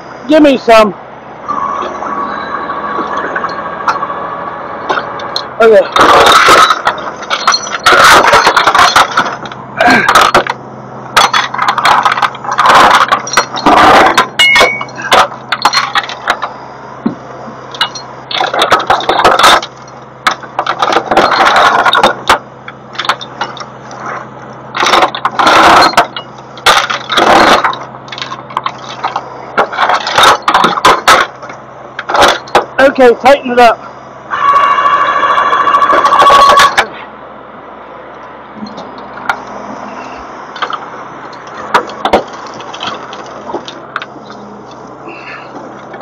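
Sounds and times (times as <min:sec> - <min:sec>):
engine idling: 0:00.0 - 0:46.0
metal clanking and scraping: 0:01.5 - 0:04.2, 0:04.8 - 0:32.8, 0:34.3 - 0:37.1, 0:38.6 - 0:44.9.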